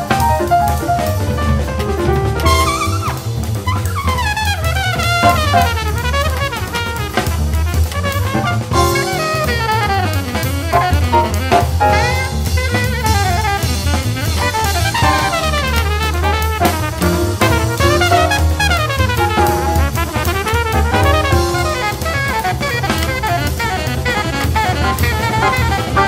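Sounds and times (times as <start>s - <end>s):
drum kit: 0.0s - 26.0s
jazz brass melodic runs: 0.0s - 26.0s.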